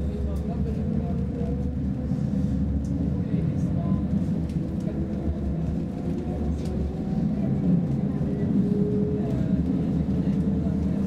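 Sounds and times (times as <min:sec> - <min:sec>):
rumble of train wheels on track: 0:00.0 - 0:11.0.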